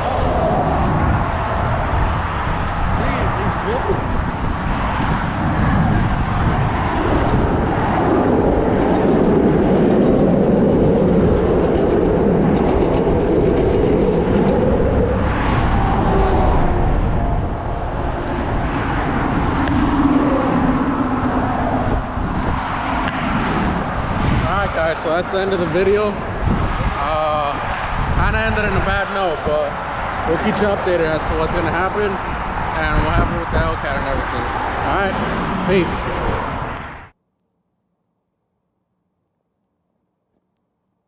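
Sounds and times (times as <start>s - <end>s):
vehicle rumble: 0.0s - 37.2s.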